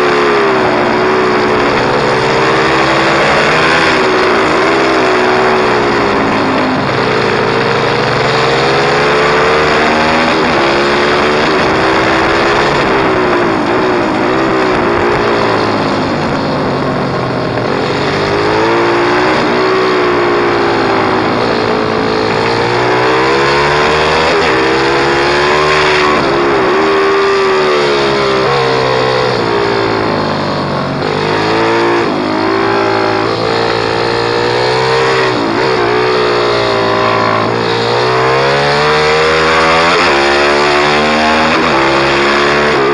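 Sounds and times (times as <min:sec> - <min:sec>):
pit bike engine revving: 0:00.0 - 0:42.9.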